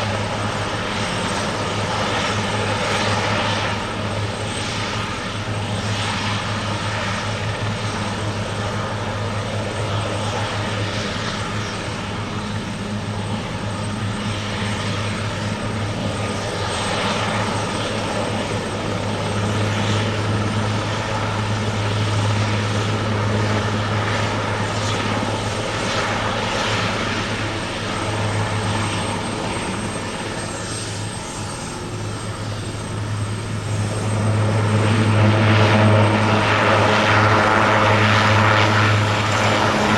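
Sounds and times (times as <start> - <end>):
helicopter droning: 0.0 - 39.9.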